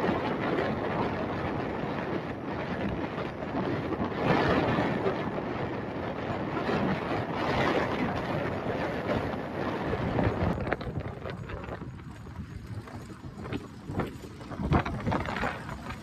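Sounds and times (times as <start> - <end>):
road noise from moving vehicle: 0.0 - 16.0
wind rushing over microphone: 0.0 - 16.0.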